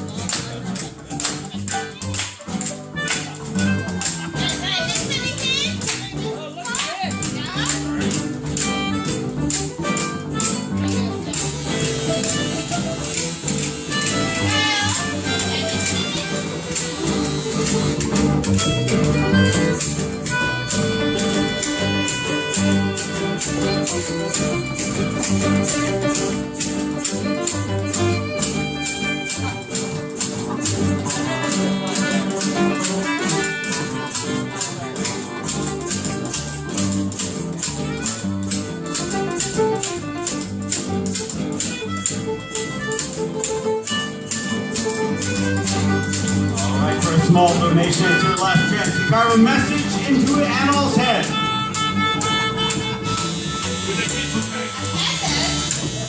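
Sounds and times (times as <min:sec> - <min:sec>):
guitar: 0:00.0 - 0:56.0
shaker keeping a steady beat: 0:00.0 - 0:56.0
upright bass: 0:00.0 - 0:56.0
violin: 0:00.0 - 0:56.0
melodica playing held notes: 0:01.2 - 0:56.0.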